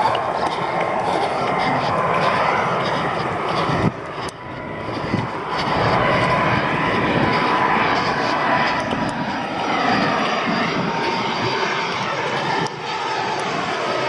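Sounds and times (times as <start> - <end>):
jet airliner engine whine: 0.0 - 14.0.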